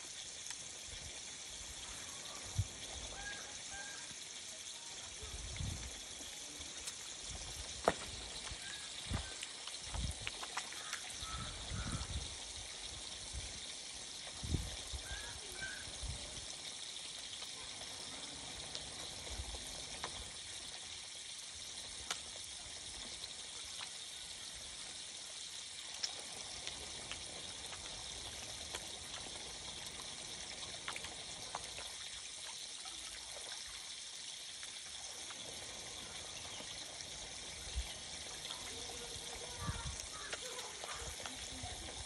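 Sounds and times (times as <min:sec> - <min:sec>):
water trickling into pond: 0:00.0 - 0:42.0
faint small splashes: 0:01.6 - 0:14.4, 0:16.5 - 0:42.0.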